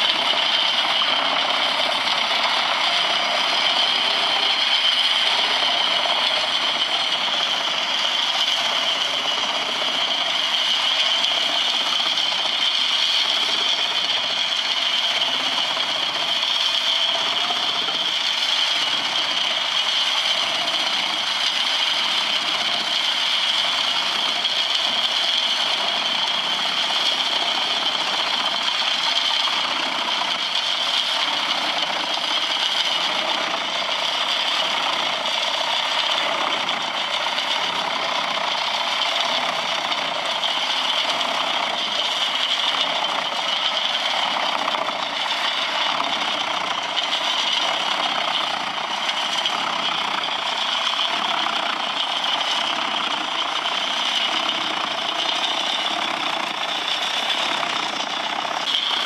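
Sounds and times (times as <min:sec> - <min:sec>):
high machine whine: 0:00.0 - 0:59.0
wood chipper running: 0:00.0 - 0:59.0.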